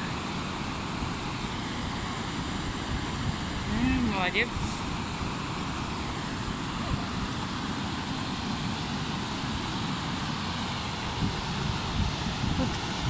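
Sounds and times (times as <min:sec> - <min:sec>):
river water rushing over dam: 0:00.0 - 0:13.0.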